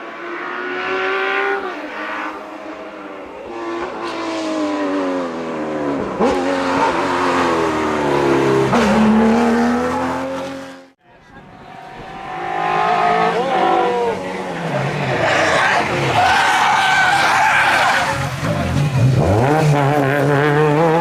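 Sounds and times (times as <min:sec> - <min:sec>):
rally car engine revving: 0:00.0 - 0:11.0, 0:11.9 - 0:21.0
rally car approaching: 0:00.0 - 0:21.0.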